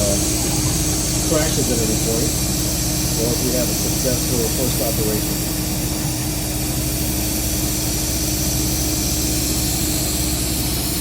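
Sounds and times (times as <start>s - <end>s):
air nozzle hissing: 0.0s - 11.0s
milling machine spindle hum: 0.0s - 11.0s.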